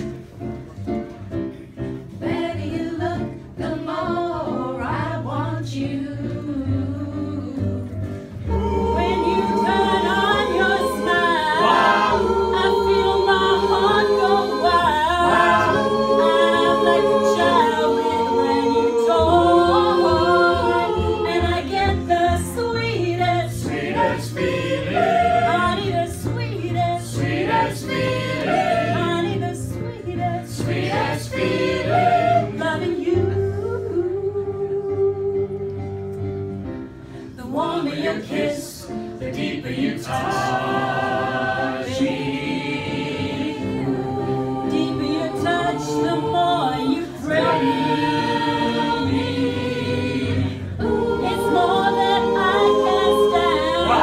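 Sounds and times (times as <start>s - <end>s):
mixed choir singing: 1.5s - 36.6s, 37.3s - 54.0s.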